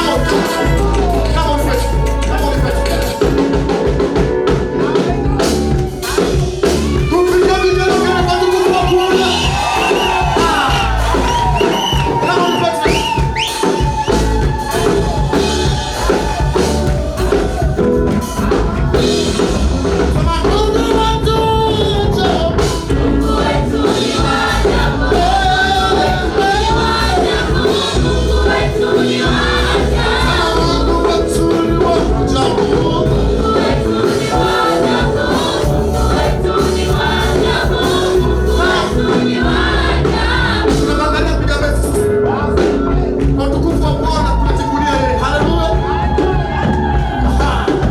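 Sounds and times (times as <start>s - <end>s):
band accompaniment with low bass: 0.0s - 47.9s
gospel choir singing: 0.0s - 47.9s.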